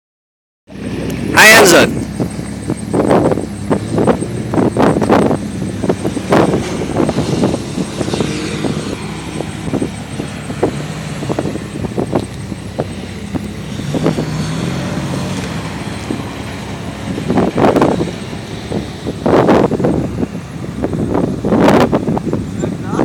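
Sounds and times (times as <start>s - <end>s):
engine revving: 0.7s - 23.0s.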